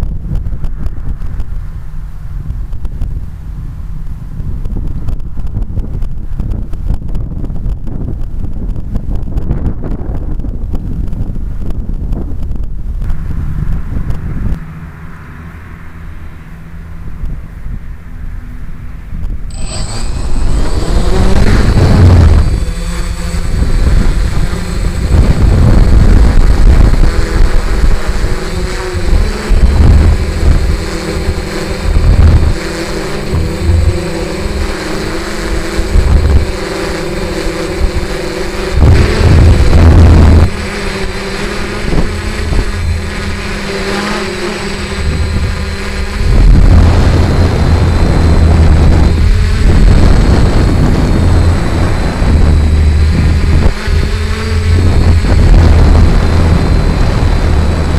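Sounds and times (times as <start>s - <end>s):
drone propellers whirring: 0.0s - 57.9s
wind buffeting microphone: 0.0s - 57.9s.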